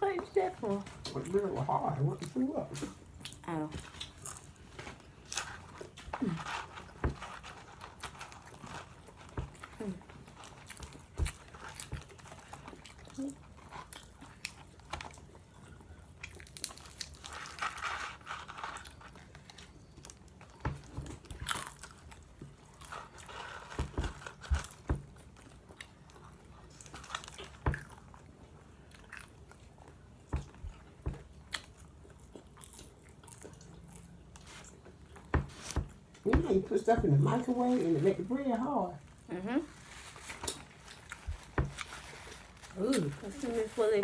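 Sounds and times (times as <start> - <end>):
crunchy bites and chewing: 1.0 - 38.2, 39.8 - 43.4.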